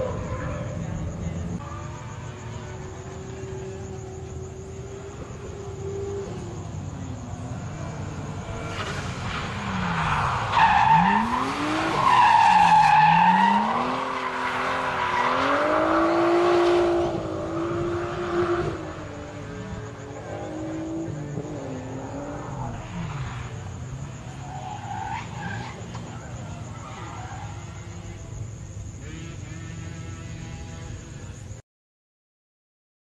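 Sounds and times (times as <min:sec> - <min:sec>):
car engine revving: 0:00.0 - 0:28.3.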